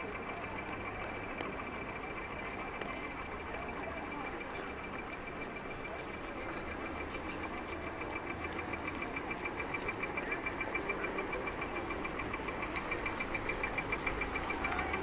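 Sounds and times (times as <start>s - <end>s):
crossing signal rapid beeps: 0.0s - 15.0s
street noise: 0.0s - 15.0s.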